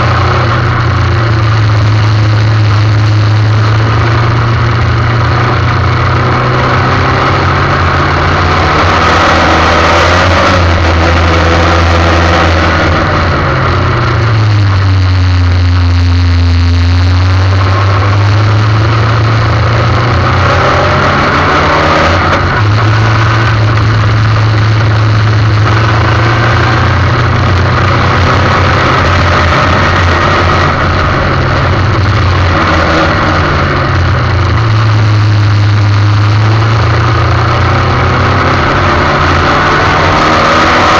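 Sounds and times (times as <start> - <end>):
race car engine at speed: 0.0 - 40.9.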